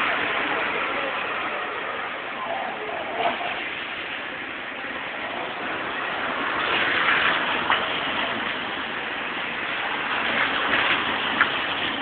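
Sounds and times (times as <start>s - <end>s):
street noise hiss: 0.0s - 12.0s.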